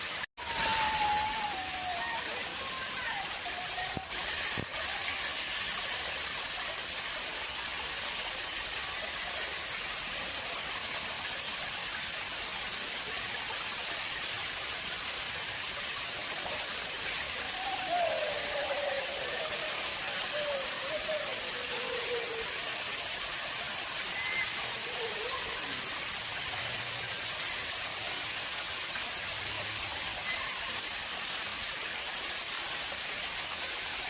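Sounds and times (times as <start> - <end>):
water flowing into a pond: 0.0 - 34.0.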